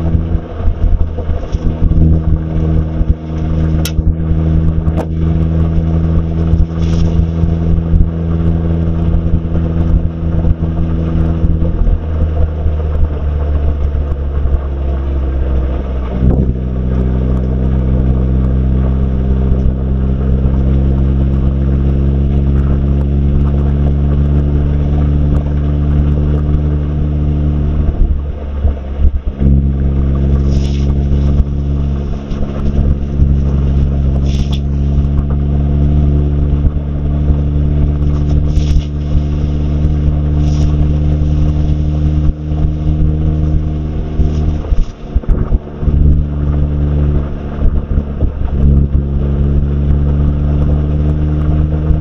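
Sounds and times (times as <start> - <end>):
car engine from inside cabin: 0.0 - 52.0
road noise: 0.0 - 52.0.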